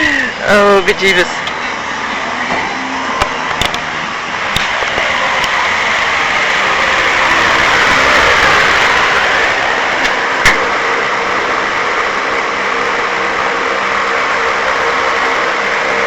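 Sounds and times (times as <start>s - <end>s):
power tool cutting metal: 1.4s - 16.0s.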